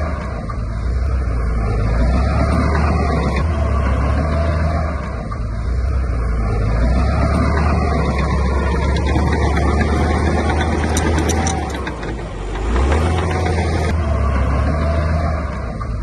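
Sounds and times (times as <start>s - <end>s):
heavy diesel engine under load: 0.0s - 16.0s
sharp metallic clicks: 0.4s - 14.0s.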